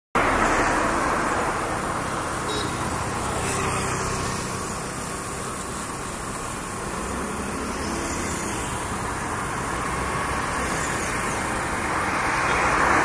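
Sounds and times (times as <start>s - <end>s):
road traffic rush: 0.1s - 13.0s.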